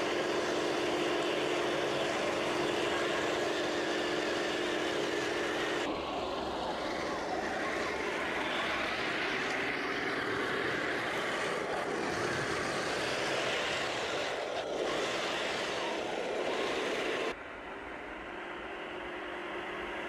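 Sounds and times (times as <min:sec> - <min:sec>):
toy tank motor and tracks running: 0:00.0 - 0:17.4.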